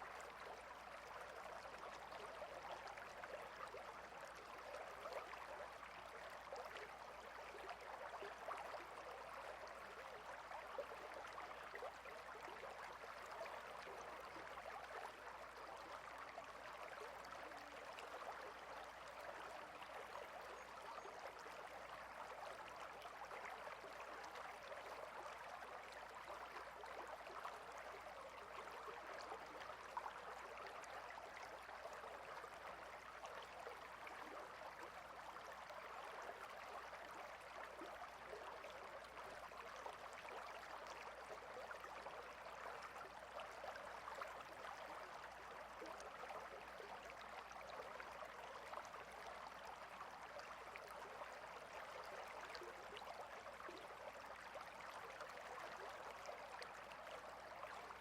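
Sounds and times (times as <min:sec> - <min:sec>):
stream water babbling: 0:00.0 - 0:58.0.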